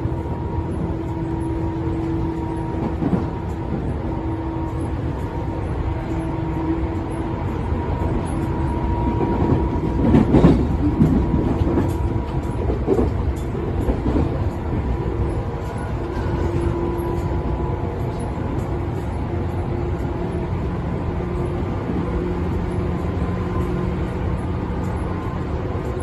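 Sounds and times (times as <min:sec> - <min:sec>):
train clatter: 0:00.0 - 0:26.0
train wheels rumbling on rail: 0:00.0 - 0:26.0.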